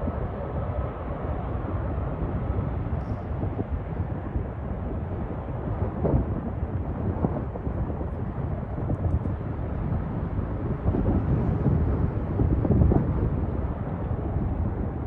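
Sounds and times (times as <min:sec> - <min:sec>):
distant jet engine rumble: 0:00.0 - 0:15.0
wind buffeting microphone: 0:00.0 - 0:15.0.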